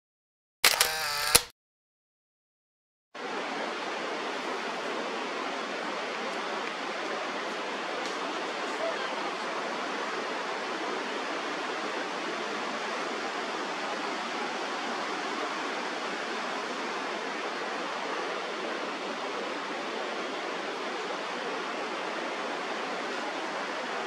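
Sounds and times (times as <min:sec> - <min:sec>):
river water rushing: 0:03.2 - 0:24.0.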